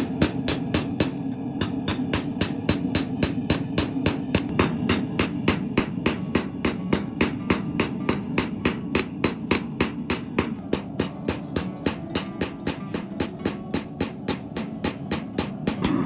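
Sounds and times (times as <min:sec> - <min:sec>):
hammer striking steel on anvil: 0:00.0 - 0:16.0
steady low hum: 0:00.0 - 0:16.0.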